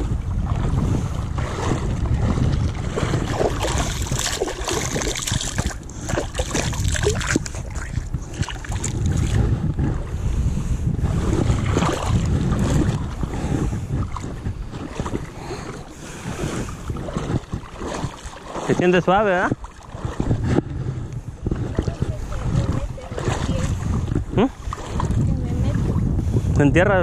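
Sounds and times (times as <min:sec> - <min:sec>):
river water sloshing and splashing: 0:00.0 - 0:10.3, 0:11.0 - 0:26.1
wind rumble on microphone: 0:00.0 - 0:27.0.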